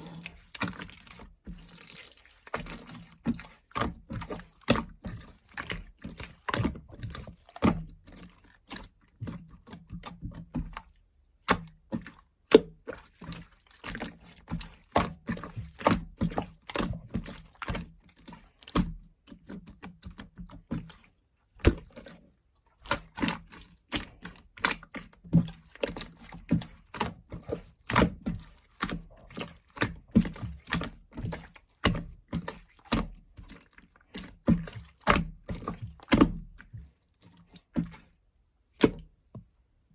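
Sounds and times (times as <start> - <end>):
slime squishing: 0.0 - 39.2.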